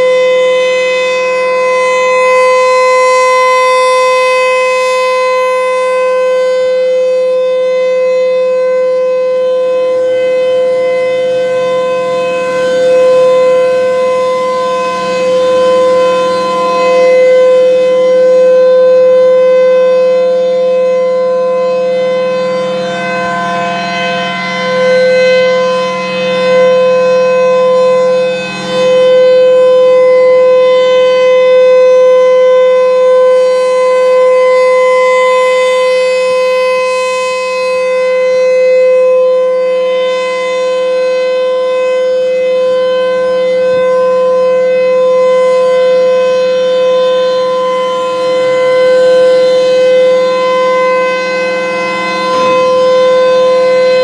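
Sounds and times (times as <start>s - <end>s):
rotating warning siren: 0.0s - 54.0s.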